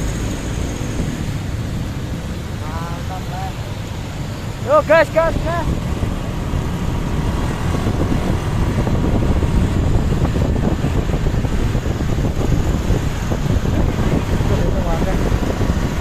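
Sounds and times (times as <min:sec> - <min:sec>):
vehicle rumbling on road: 0:00.0 - 0:16.0
wind buffeting microphone: 0:00.0 - 0:16.0.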